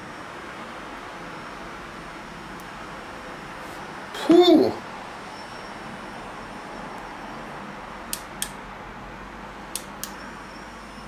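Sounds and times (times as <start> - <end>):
small electric fan whining: 0.0 - 11.0.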